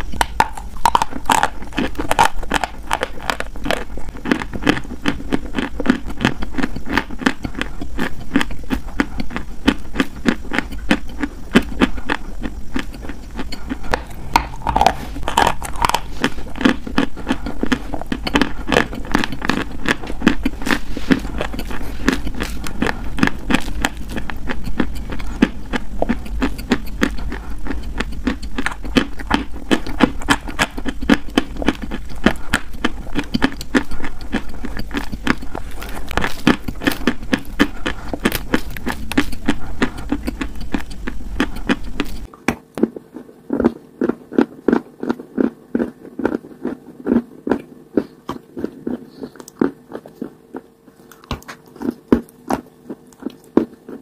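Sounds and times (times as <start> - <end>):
mouth chewing crunchy food: 0.0 - 54.0.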